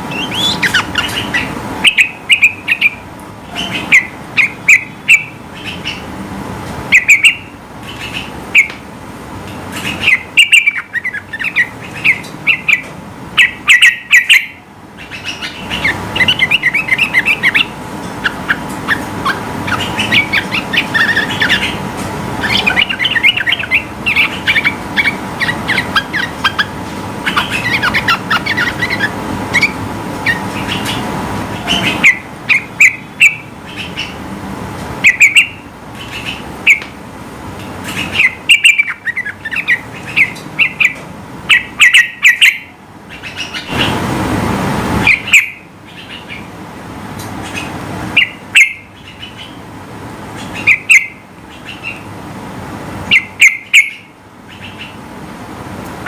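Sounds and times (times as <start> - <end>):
bird chirping and whistling: 0.1 - 6.0, 6.9 - 8.7, 9.8 - 21.8, 22.4 - 31.0, 31.6 - 34.2, 35.0 - 36.8, 37.9 - 43.9, 45.0 - 46.4, 47.6 - 49.6, 50.4 - 52.0, 53.1 - 55.0.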